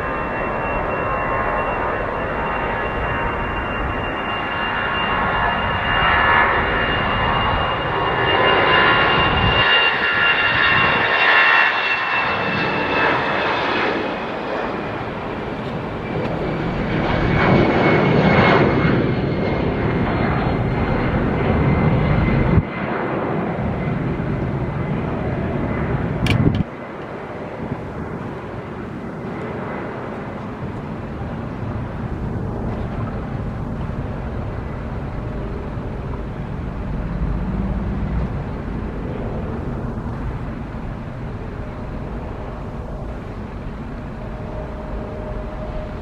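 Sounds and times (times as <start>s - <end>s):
jet airliner engines passing: 0.0s - 46.0s.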